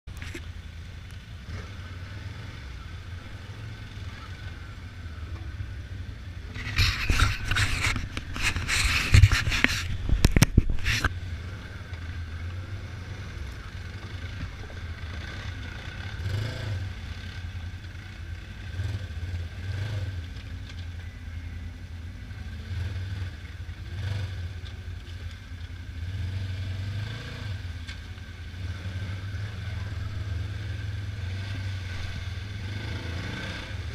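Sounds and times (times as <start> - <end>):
vehicle engine droning: 0.1 - 33.9.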